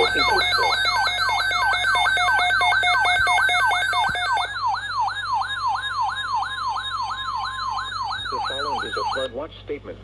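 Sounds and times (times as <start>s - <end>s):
electronic siren yelp and whoop: 0.0s - 9.3s.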